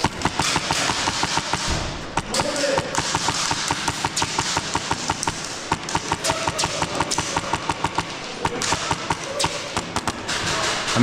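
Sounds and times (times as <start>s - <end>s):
airsoft guns firing: 0.0s - 11.0s.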